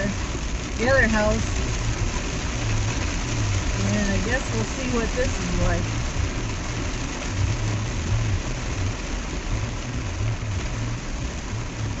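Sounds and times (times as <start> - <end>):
heavy rain hissing: 0.0 - 12.0
truck engine rumble: 0.0 - 12.0
wet tyres on flooded road: 0.0 - 12.0.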